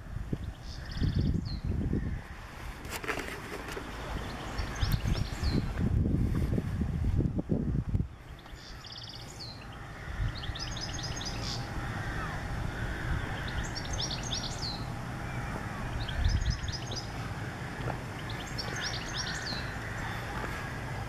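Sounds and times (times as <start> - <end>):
songbird singing: 0.0 - 2.5, 3.1 - 21.0
wind buffeting microphone: 0.0 - 21.0.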